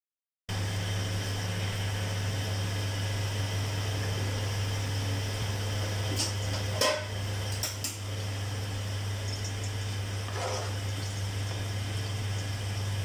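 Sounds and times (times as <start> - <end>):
appliance hum with hiss: 0.5 - 13.0.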